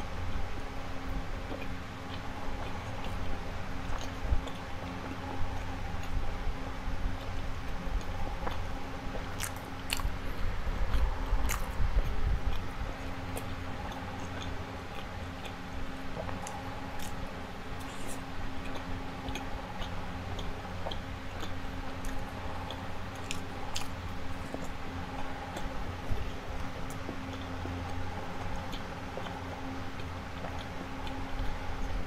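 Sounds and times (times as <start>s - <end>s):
person chewing: 1.4s - 6.4s, 7.0s - 32.0s.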